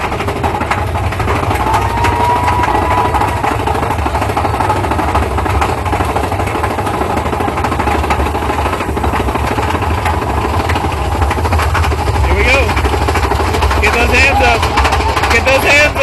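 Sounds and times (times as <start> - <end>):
roller coaster rumbling on track: 0.0 - 16.0
wheels rattling: 0.0 - 16.0.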